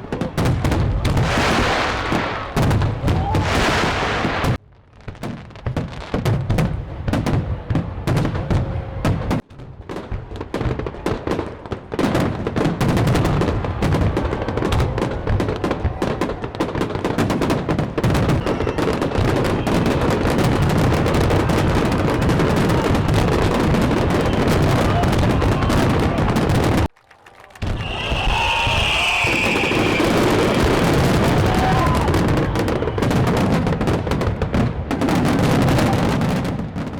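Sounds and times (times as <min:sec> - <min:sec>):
fireworks exploding: 0:00.0 - 0:36.9.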